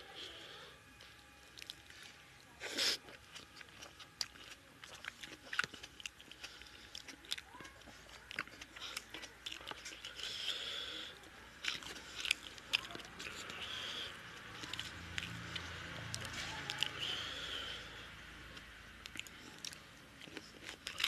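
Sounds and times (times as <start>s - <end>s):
chewing with mouth clicks: 1.0s - 21.0s.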